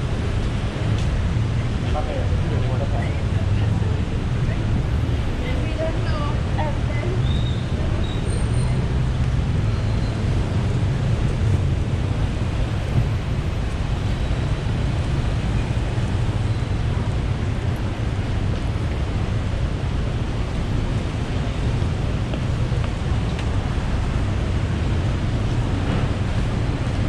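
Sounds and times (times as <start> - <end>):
busy road traffic roar: 0.0 - 27.0.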